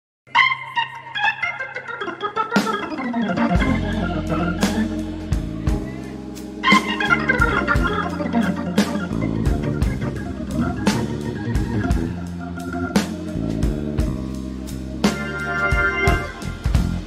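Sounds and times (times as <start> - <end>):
organ-like keyboard music: 0.4 - 17.0
bass notes: 2.5 - 17.0.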